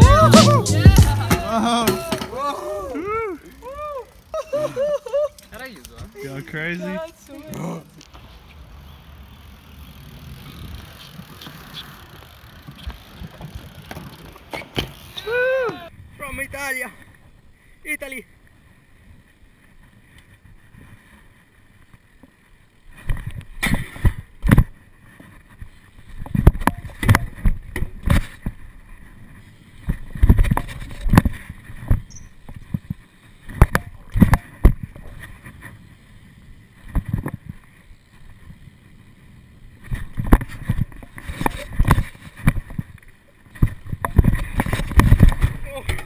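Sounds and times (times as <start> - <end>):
bike tyres rolling on concrete: 0.0 - 46.0
bike knocking and rattling: 0.8 - 17.3, 19.3 - 46.0.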